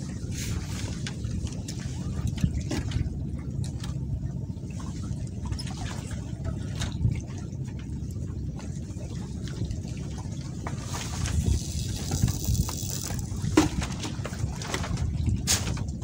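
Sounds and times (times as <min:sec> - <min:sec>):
light clicks and splashes: 0:00.0 - 0:16.0
low rumble: 0:00.0 - 0:16.0
water sloshing and lapping: 0:00.0 - 0:16.0.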